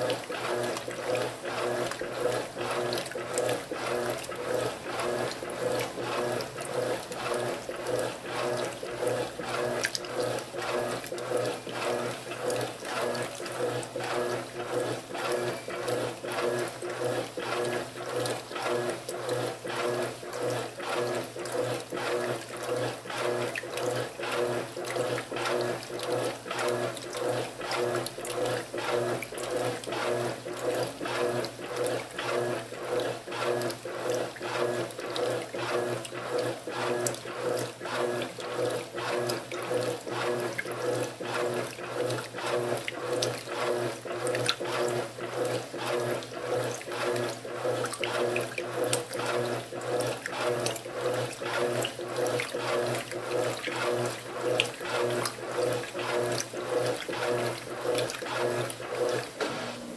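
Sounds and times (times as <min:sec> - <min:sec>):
washer sloshing laundry: 0:00.0 - 0:59.9.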